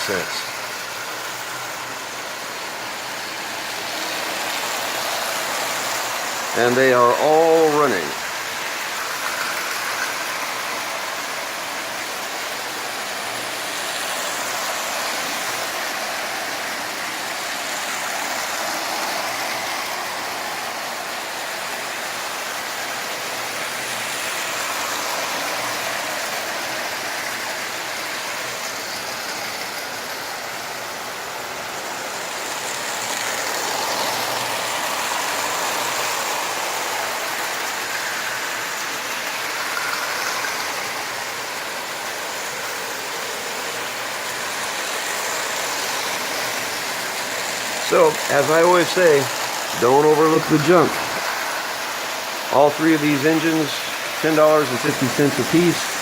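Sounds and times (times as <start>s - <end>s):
toy trains rattling on tin rails: 0.0s - 56.0s.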